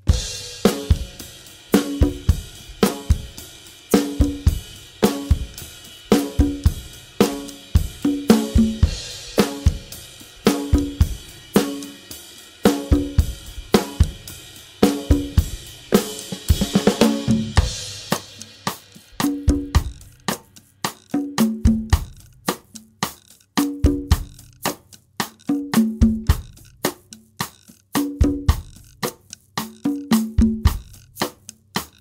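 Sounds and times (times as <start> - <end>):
drum kit and percussion groove: 0.0 - 32.0.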